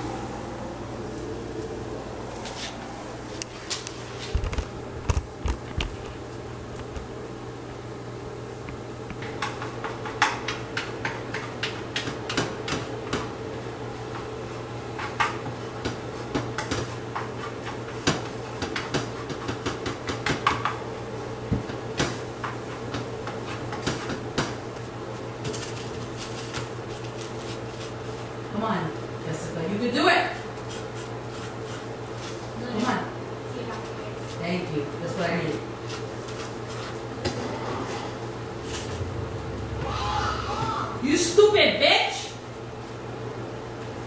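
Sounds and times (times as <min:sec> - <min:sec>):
steady fan hum: 0:00.0 - 0:44.0.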